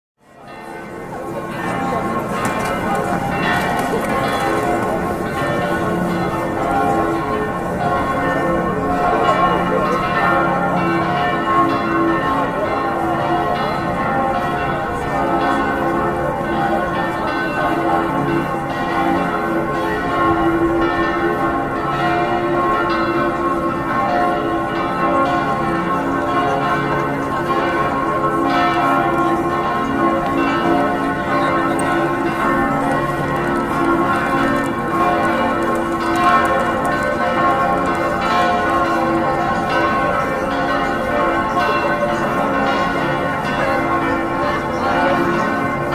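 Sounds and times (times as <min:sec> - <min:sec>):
church bells pealing: 0:00.2 - 0:45.9.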